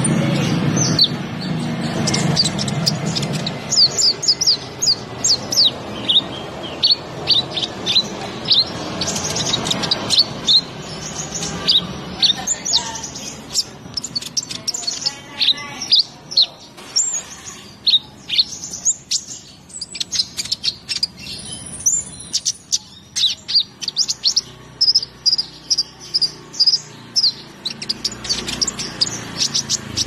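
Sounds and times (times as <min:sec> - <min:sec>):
bird chirping song: 0:00.0 - 0:30.0.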